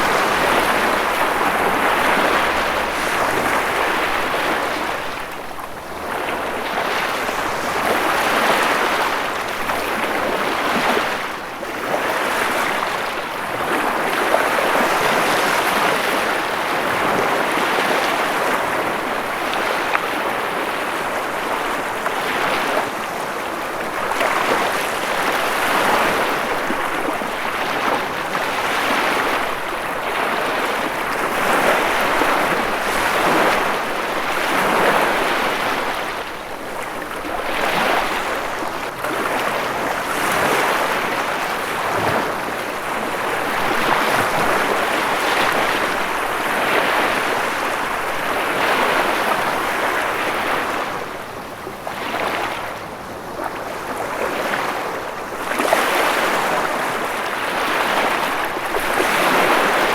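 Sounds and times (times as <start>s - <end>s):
ocean waves washing on shore: 0.0s - 59.9s.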